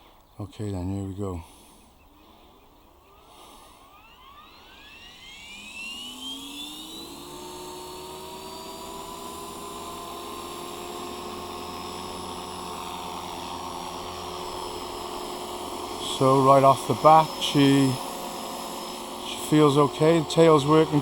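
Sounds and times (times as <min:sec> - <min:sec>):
model helicopter rotors whining: 0:01.4 - 0:21.0.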